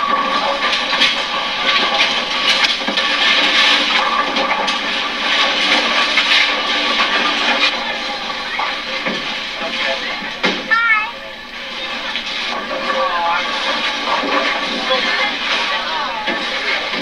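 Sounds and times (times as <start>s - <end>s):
bowling balls rolling: 0.0s - 17.0s
bowling pins clattering: 0.0s - 17.0s.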